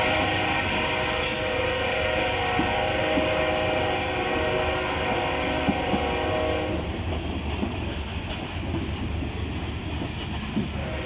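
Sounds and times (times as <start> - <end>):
freight train cars rumbling: 0.0 - 11.0.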